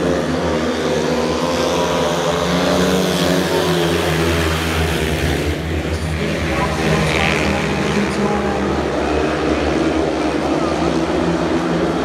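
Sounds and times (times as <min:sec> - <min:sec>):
motorcycles racing: 0:00.0 - 0:12.0.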